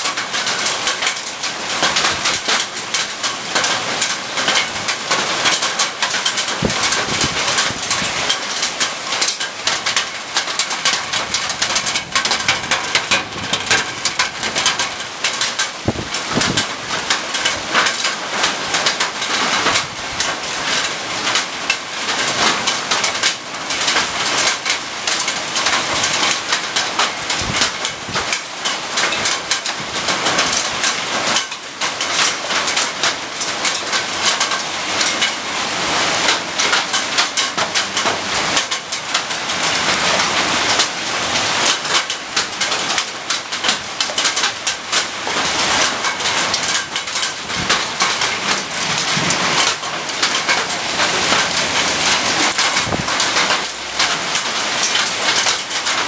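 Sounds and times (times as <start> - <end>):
hail pattering on ground: 0.0 - 56.0.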